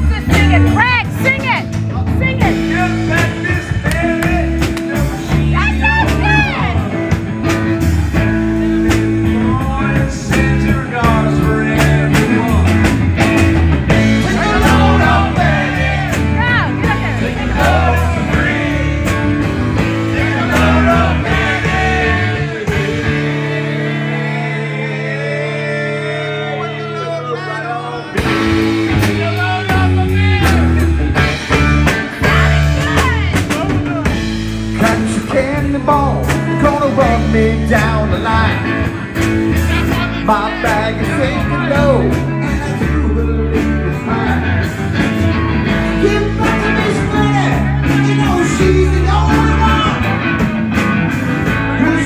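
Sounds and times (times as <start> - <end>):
live rock band playing: 0.0 - 52.0
voices singing along: 0.0 - 52.0.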